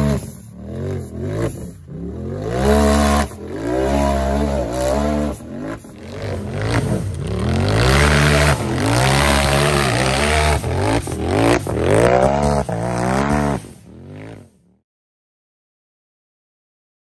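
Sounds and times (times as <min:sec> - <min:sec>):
buggy engine revving hard: 0:00.0 - 0:14.6.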